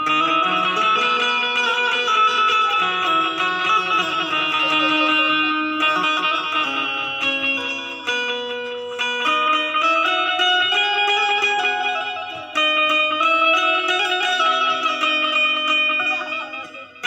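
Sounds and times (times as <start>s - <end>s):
plucked keyed string melody: 0.0s - 17.0s.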